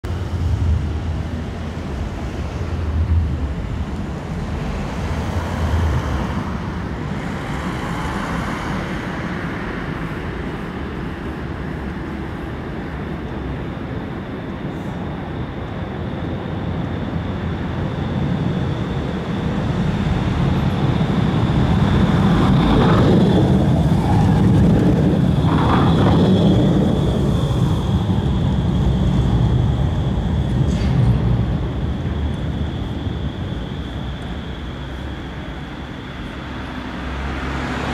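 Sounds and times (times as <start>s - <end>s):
street traffic: 0.0s - 37.9s
tram high steady whine: 0.0s - 37.9s
tram wheels rumbling on rails: 0.0s - 37.9s.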